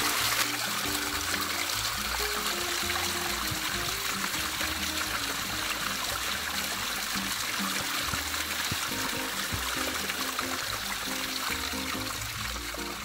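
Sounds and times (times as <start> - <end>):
background music: 0.0 - 13.0
water splashing into a bottle: 0.0 - 13.0.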